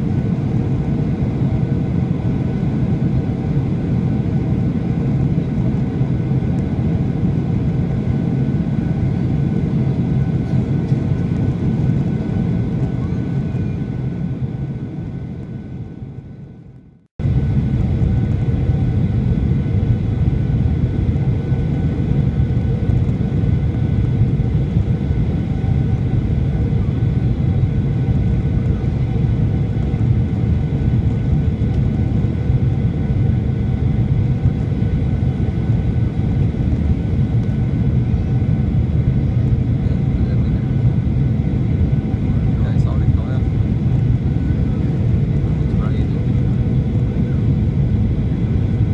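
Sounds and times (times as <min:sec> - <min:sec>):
jet engine drone in cabin: 0:00.0 - 0:48.9.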